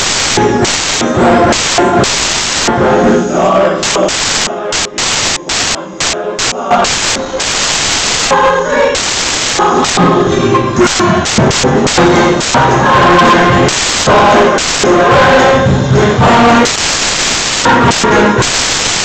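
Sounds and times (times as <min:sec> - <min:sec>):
chopped up glitched music: 0:00.0 - 0:19.0
loud static hiss bursts: 0:00.0 - 0:19.0.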